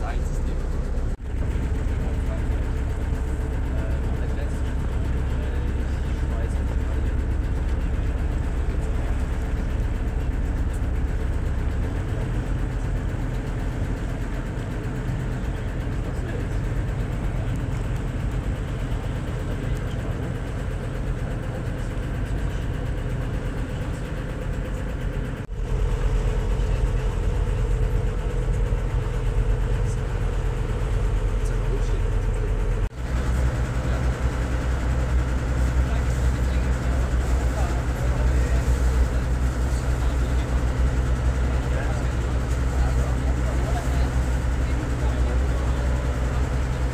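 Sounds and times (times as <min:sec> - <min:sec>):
motorboat engine running: 0:00.0 - 0:46.9.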